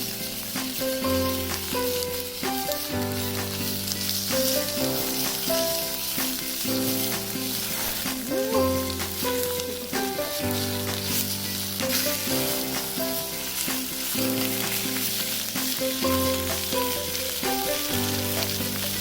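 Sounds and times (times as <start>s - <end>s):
background music: 0.0s - 19.0s
food sizzling in a pan: 0.0s - 19.0s.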